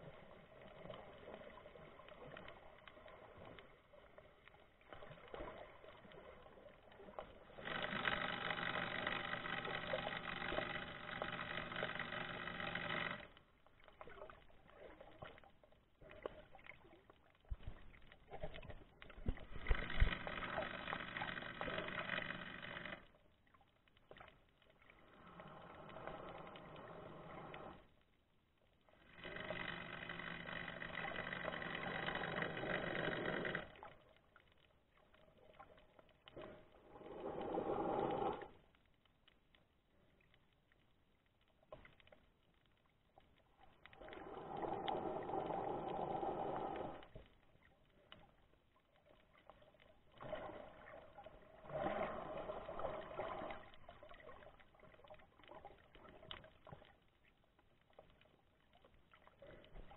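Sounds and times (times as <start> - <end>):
underwater breathing and bubbles: 0.0 - 59.9.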